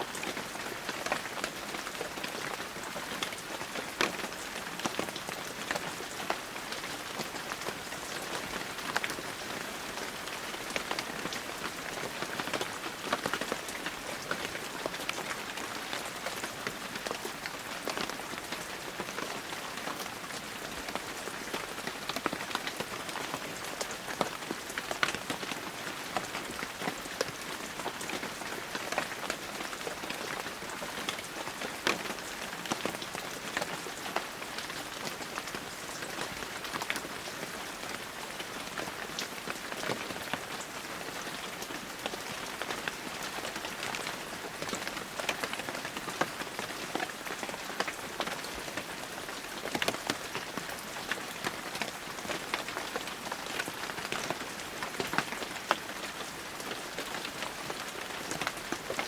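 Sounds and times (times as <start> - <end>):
raindrops pattering on surfaces: 0.0 - 59.0.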